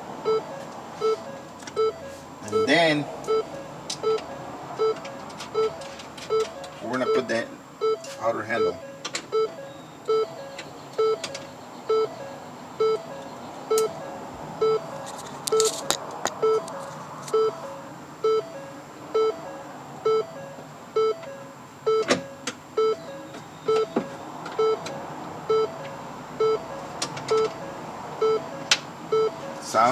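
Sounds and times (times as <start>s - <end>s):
car warning chime beeping: 0.0s - 29.9s.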